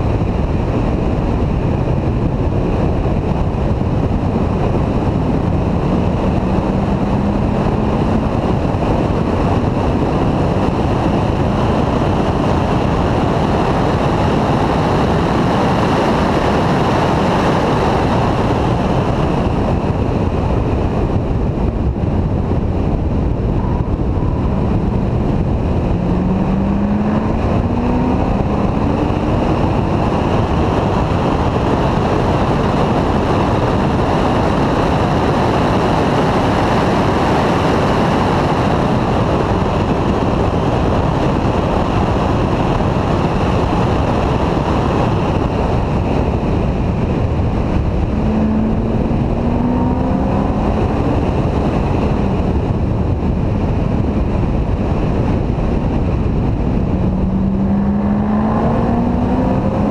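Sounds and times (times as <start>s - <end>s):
car engine accelerating: 0.0s - 59.9s
wind rushing over microphone: 0.0s - 59.9s.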